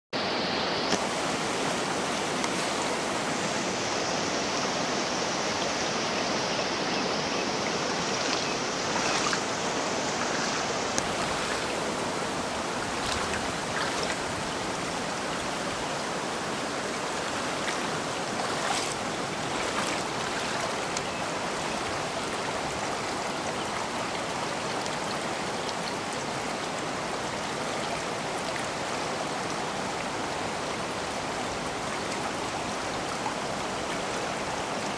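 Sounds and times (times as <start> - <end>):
floodwater rushing: 0.2 - 34.9.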